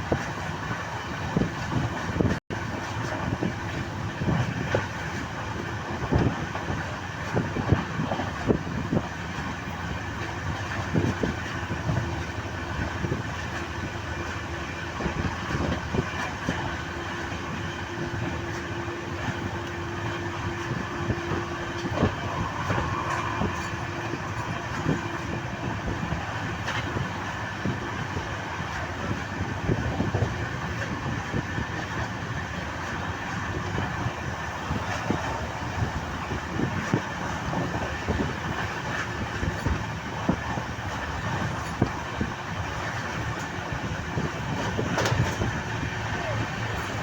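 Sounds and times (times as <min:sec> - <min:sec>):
train rumbling: 0:00.0 - 0:47.0
wheels clicking on track: 0:00.0 - 0:47.0.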